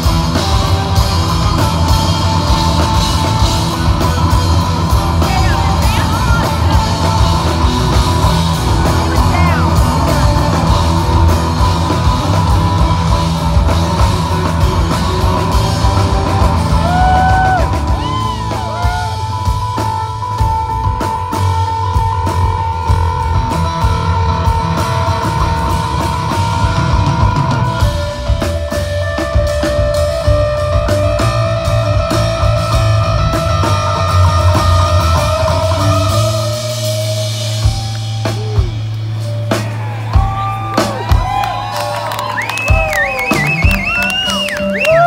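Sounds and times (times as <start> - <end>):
electric guitar bending notes: 0.0 - 41.6
rock band playing: 0.0 - 45.0.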